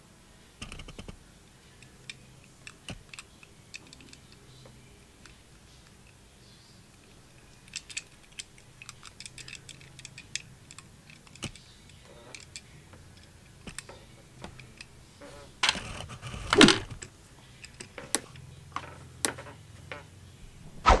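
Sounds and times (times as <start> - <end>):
fingers clicking on model car: 0.6 - 6.2, 6.9 - 20.0.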